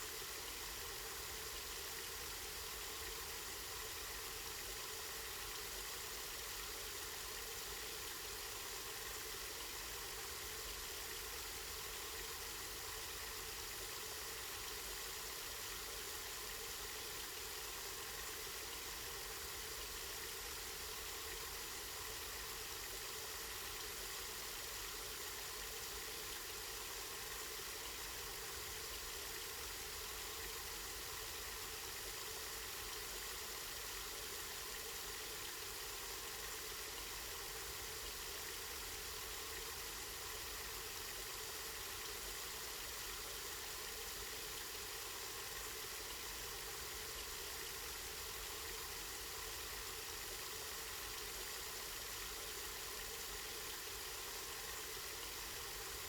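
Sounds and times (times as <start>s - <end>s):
spring water flowing and splashing: 0.0s - 56.0s.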